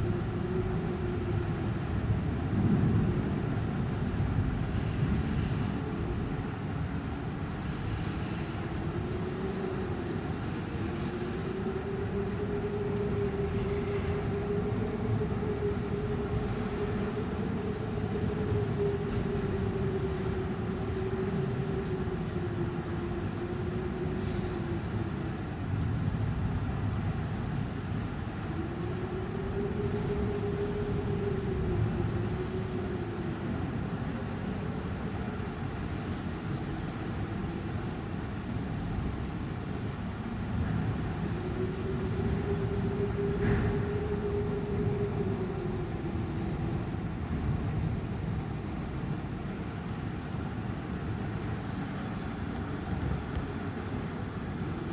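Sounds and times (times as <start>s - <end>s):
storm wind howling: 0.0s - 54.9s.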